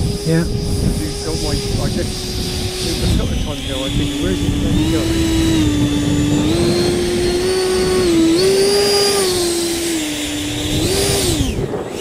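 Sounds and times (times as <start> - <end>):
electric ducted fan whining: 0.0 - 12.0.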